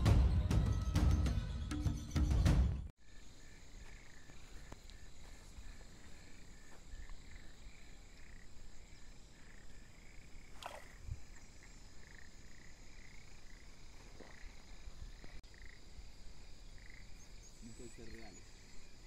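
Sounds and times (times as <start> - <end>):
frogs chorus: 3.0 - 19.0
high insect hum: 3.0 - 19.0.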